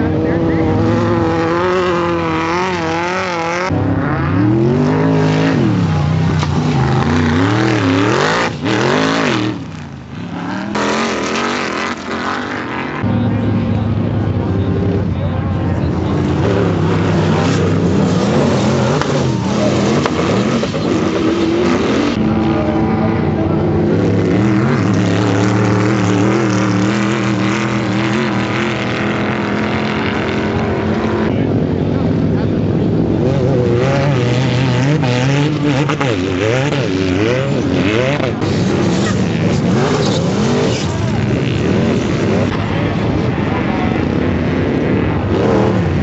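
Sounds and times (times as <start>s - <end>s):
dune buggy engines revving: 0.0s - 46.0s.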